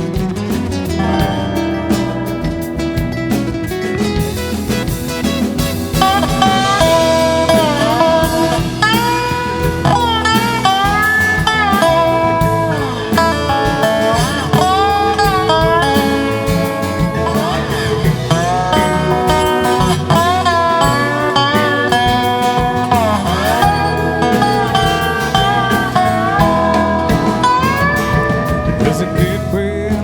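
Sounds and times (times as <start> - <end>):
lead guitar solo: 0.0 - 29.9
band playing: 0.0 - 30.0.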